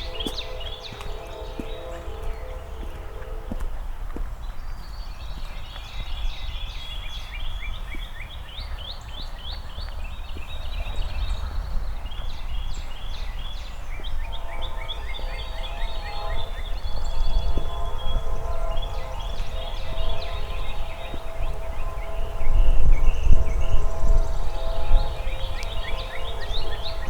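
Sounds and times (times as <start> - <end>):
low outdoor rumble: 0.0 - 27.0
songbirds chirping: 0.0 - 27.0
steady hum of held tones: 0.0 - 27.0.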